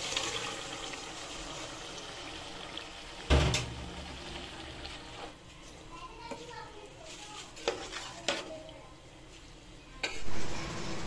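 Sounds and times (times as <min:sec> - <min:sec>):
curry hissing in a pot: 0:00.0 - 0:11.0.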